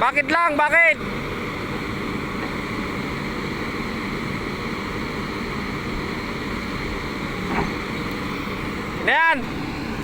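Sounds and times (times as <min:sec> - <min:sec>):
backhoe engine running: 0:00.0 - 0:10.0.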